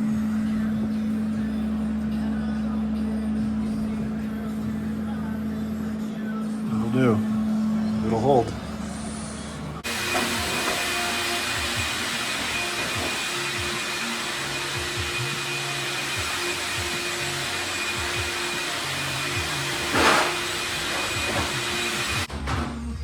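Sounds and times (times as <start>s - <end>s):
shop vacuum blower running: 0.0s - 22.5s.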